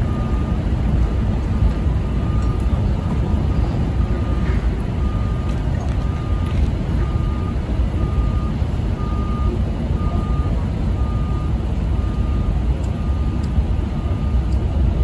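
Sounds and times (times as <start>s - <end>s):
reversing alarm beeping: 0.0s - 0.7s, 1.8s - 14.6s.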